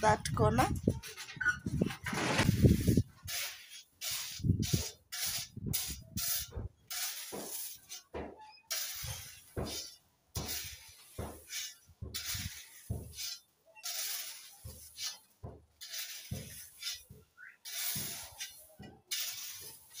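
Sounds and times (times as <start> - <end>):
trowel scraping gravel: 0.6 - 20.0.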